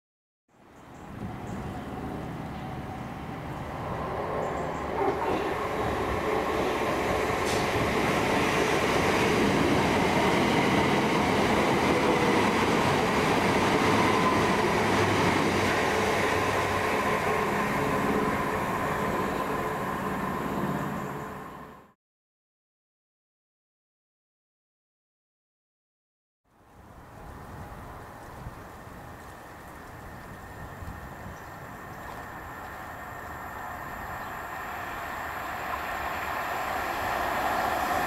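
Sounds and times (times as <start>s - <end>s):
train wheels rumbling on rail: 1.0s - 21.4s, 27.2s - 38.0s.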